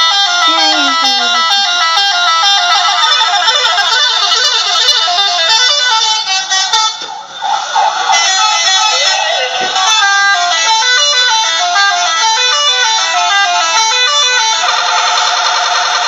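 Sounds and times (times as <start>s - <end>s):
multi-tone bus air horns: 0.0s - 7.0s, 8.2s - 15.6s.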